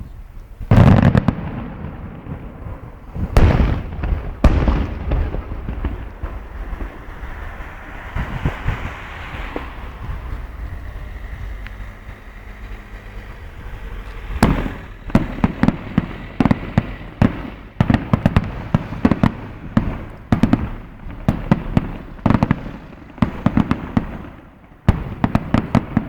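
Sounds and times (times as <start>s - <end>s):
firework crackling: 0.0s - 26.0s
rumbling echo: 0.0s - 26.0s
distant firework bangs: 0.6s - 26.0s.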